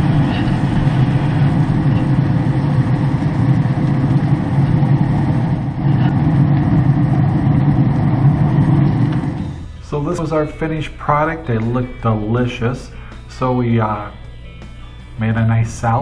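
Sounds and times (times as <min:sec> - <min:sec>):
grill fan humming: 0:00.0 - 0:16.0.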